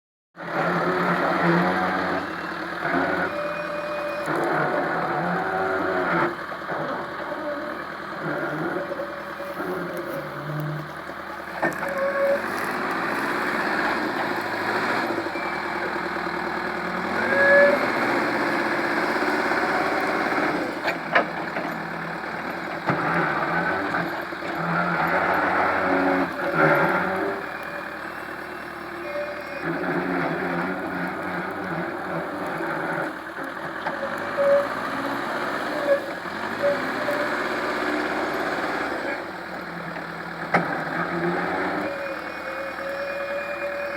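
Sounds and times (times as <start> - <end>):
diesel engine under load: 0.4 - 43.9.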